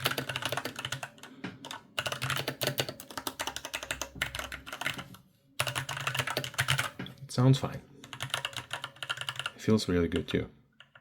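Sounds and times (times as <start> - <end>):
keyboard typing: 0.0 - 7.0, 8.0 - 11.0.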